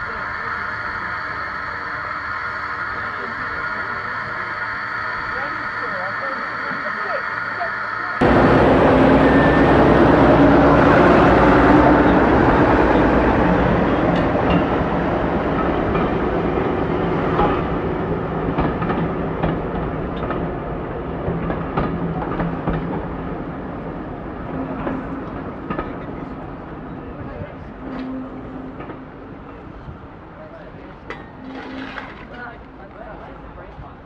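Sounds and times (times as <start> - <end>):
train running past: 0.0 - 34.0.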